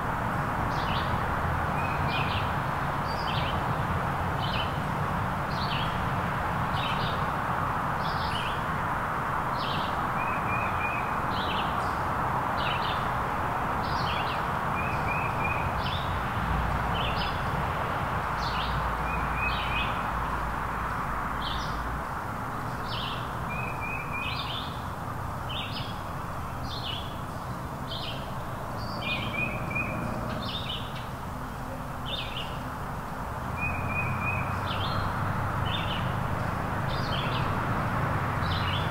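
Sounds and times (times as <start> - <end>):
songbirds chirping: 0.0 - 38.9
woodland background hiss: 0.0 - 38.9.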